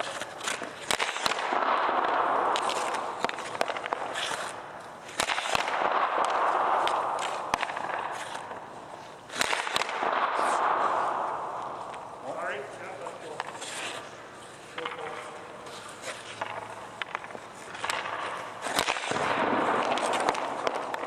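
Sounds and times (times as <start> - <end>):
stick cracking on puck: 0.0 - 12.2, 13.2 - 21.0
skates scraping ice: 0.0 - 21.0.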